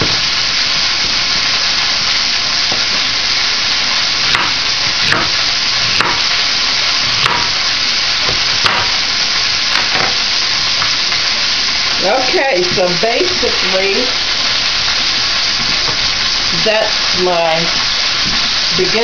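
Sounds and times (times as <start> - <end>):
vegetables sizzling in a pot: 0.0 - 19.0.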